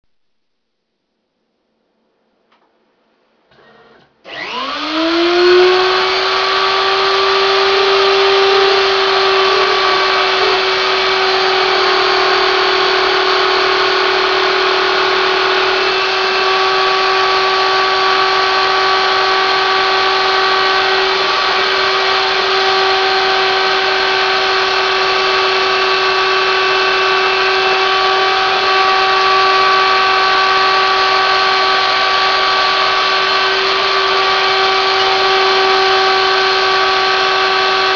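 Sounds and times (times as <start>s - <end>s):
milling spindle high whine: 3.5s - 37.9s.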